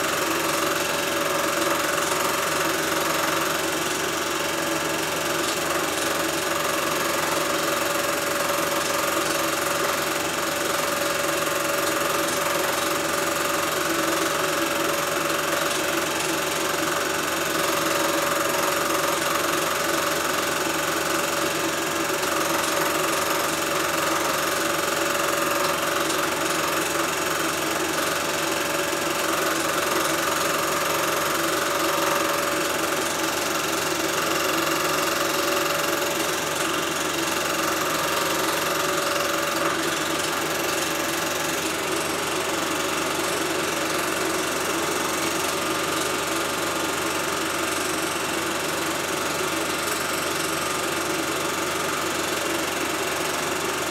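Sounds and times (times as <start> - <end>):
film projector whirring and clattering: 0.0 - 53.9.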